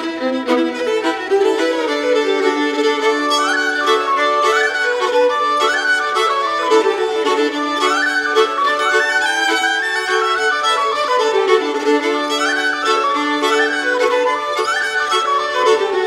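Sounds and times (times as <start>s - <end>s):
instrumental music with fiddle melody: 0.0s - 16.0s.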